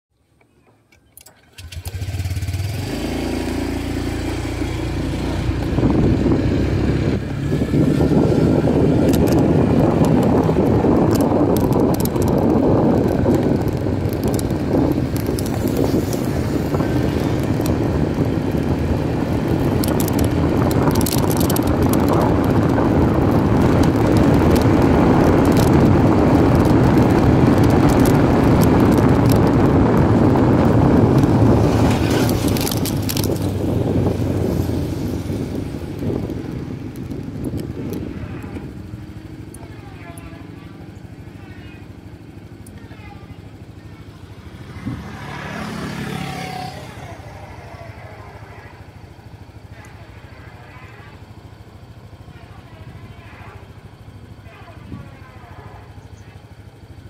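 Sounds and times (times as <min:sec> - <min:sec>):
motorcycle engine accelerating: 0:01.5 - 0:57.0
wind rushing over microphone: 0:02.3 - 0:42.6, 0:43.4 - 0:50.4.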